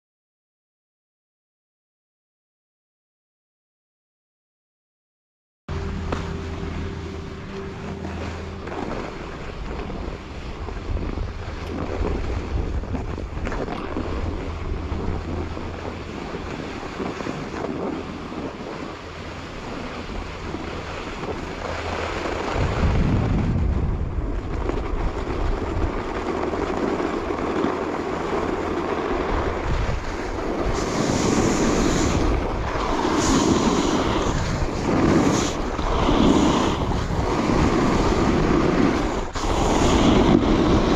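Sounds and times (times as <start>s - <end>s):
low steady hum: 5.7s - 40.9s
wind rushing over microphone: 5.7s - 40.9s
snowboard edge carving snow: 7.5s - 18.9s, 19.5s - 40.9s.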